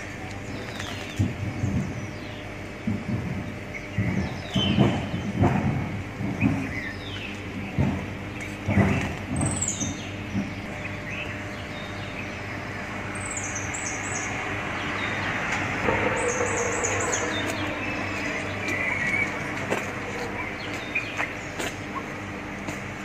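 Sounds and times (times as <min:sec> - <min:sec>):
small birds chirping: 0:00.0 - 0:05.5, 0:06.2 - 0:15.6, 0:16.2 - 0:22.9
steady low machine hum: 0:00.0 - 0:23.0.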